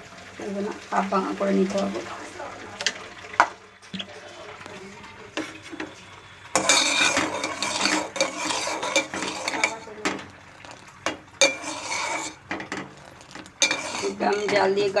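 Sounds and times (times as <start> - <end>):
spoon stirring and scraping a pot: 2.7 - 15.0.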